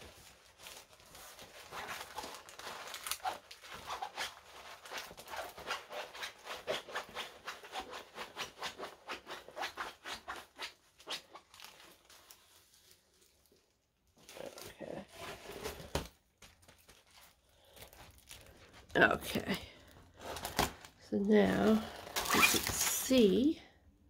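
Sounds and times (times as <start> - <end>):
plastic film crackling: 0.0 - 8.4, 9.3 - 23.5.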